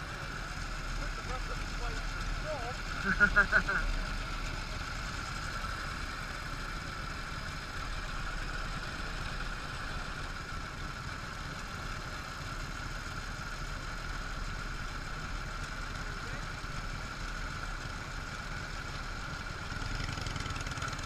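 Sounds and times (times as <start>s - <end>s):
motorcycle engines idling: 0.0s - 21.0s.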